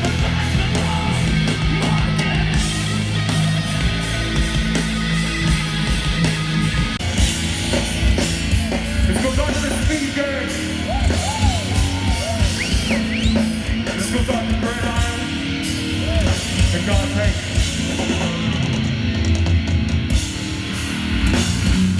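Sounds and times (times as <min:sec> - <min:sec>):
yelled vocals: 0:00.0 - 0:07.2, 0:07.8 - 0:19.1
distorted electric guitars: 0:00.0 - 0:21.9
drums: 0:00.0 - 0:21.9.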